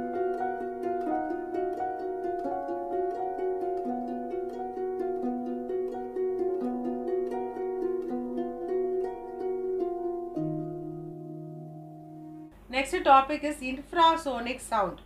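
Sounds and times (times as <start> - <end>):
plucked string music: 0.0 - 12.6.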